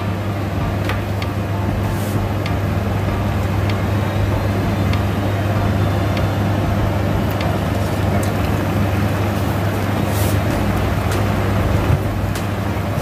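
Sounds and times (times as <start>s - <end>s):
low hum: 0.0s - 13.0s
curry boiling in a pan: 1.2s - 13.0s.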